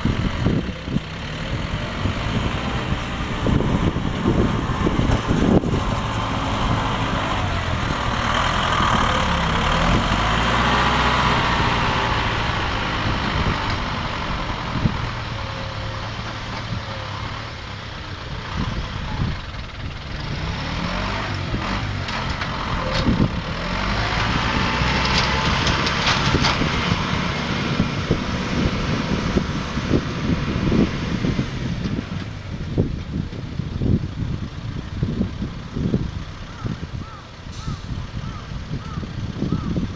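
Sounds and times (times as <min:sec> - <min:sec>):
rustling rushing noise: 0:00.0 - 0:39.9
tractor engine running: 0:00.0 - 0:39.9.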